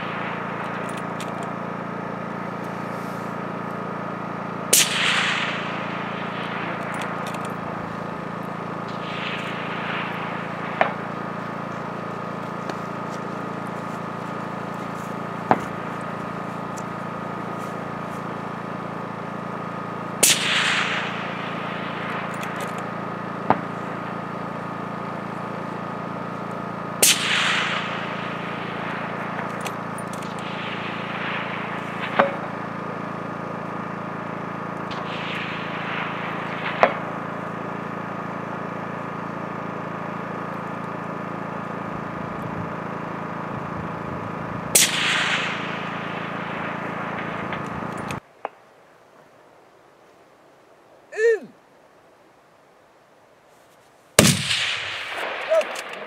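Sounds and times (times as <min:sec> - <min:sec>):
rifle shots with echo: 0:00.0 - 0:40.4, 0:44.7 - 0:48.2, 0:54.2 - 0:56.0
sharp cracks: 0:00.0 - 0:41.6, 0:44.7 - 0:48.6, 0:54.2 - 0:56.0.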